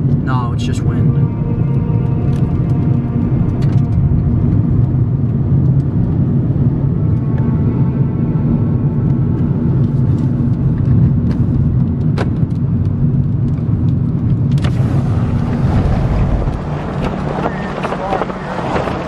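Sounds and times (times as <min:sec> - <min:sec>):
engine hum: 0:00.0 - 0:19.0
wind buffeting a car: 0:00.0 - 0:19.0.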